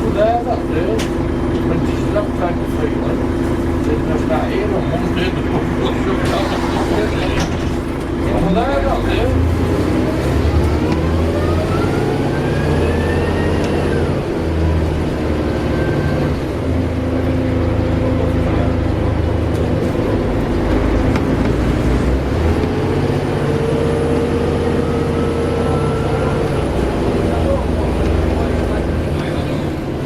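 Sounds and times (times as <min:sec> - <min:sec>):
bus engine pulling with whine: 0:00.0 - 0:30.0.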